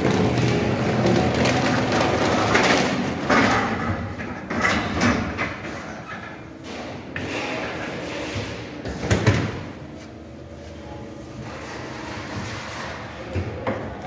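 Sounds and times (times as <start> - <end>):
bakery rack rolling and rattling: 0.0 - 14.0.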